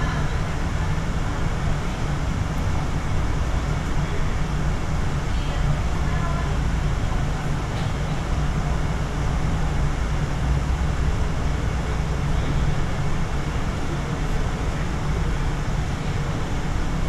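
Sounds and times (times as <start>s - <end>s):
cable train rumbling: 0.0s - 17.0s.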